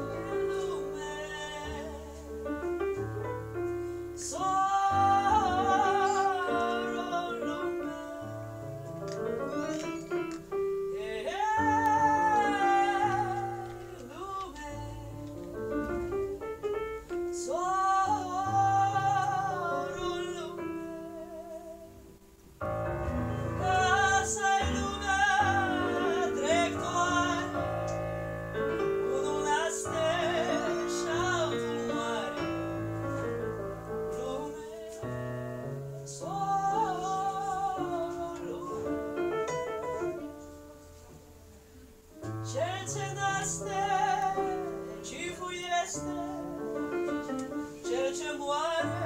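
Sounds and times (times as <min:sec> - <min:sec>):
woman singing with vibrato: 0:00.0 - 0:02.6, 0:04.2 - 0:10.3, 0:10.9 - 0:15.4, 0:17.4 - 0:22.0, 0:23.1 - 0:28.1, 0:29.0 - 0:35.2, 0:36.1 - 0:41.0, 0:42.4 - 0:49.0
electric keyboard piano chords: 0:00.0 - 0:49.0.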